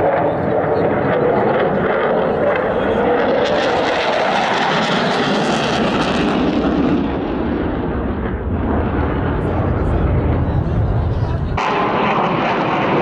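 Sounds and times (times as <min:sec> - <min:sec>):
jet engine roaring past: 0:00.0 - 0:13.0.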